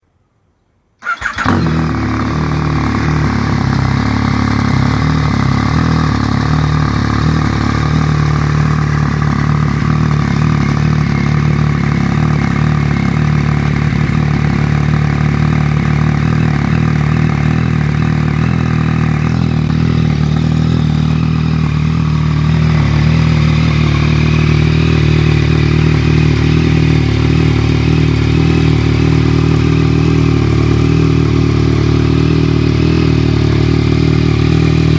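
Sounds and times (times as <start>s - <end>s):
motorcycle engine idling: 1.0s - 34.9s.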